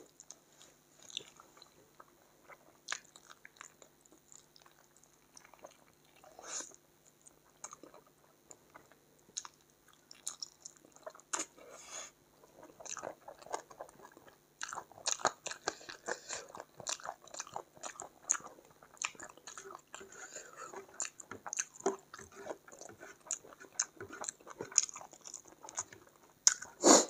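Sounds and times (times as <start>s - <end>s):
chewing and crunching chicken: 0.0s - 26.8s.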